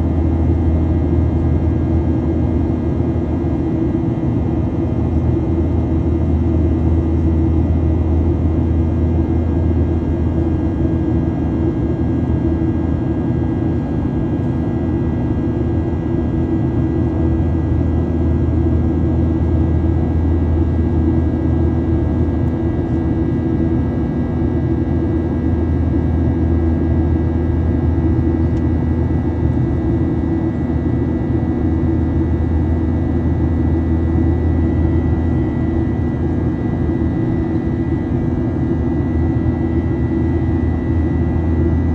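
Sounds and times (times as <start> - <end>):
airplane engine high whine: 0.0 - 41.9
airplane engines low rumble: 0.0 - 41.9.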